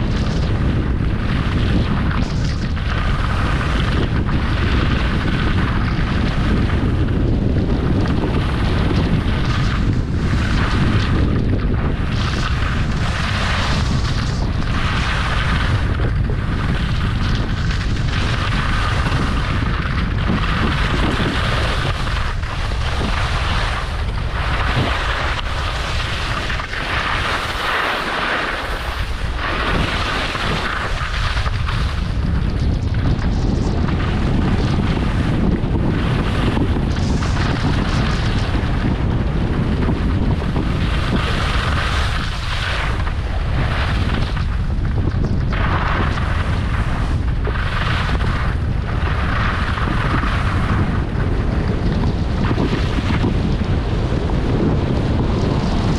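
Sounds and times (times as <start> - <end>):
skis sliding on snow: 0.0 - 55.9
wind buffeting microphone: 0.0 - 55.9.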